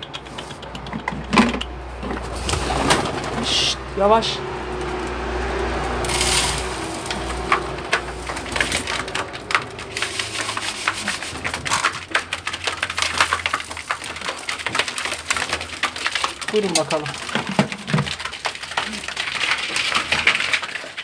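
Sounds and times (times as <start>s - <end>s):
pigeons pecking on metal: 0.0s - 21.0s.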